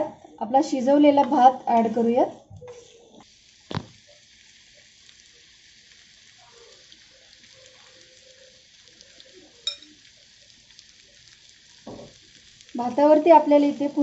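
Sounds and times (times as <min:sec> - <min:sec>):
food sizzling on iron pan: 0:00.7 - 0:14.0.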